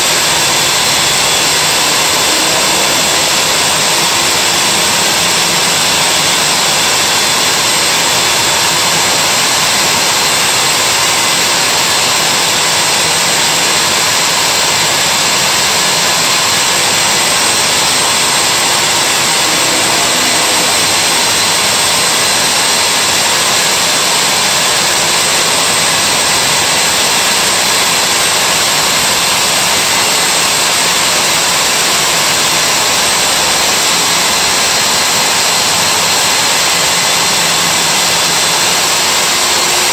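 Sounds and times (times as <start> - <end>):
core drill whirring: 0.0 - 39.9.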